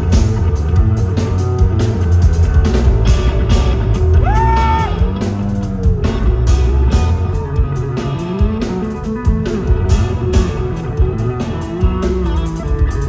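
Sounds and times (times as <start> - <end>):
electric bass bending notes: 0.0 - 13.0
rock band playing loud: 0.0 - 13.0.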